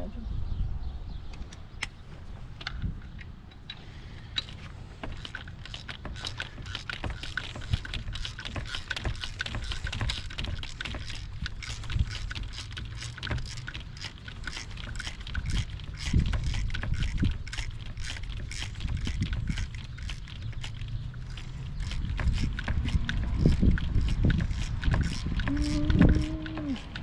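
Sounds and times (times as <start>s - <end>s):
small clicks and rattles: 1.4s - 27.0s.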